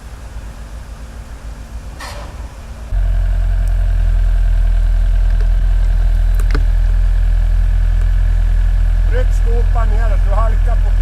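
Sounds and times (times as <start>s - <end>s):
construction machine diesel engine: 0.0s - 11.0s.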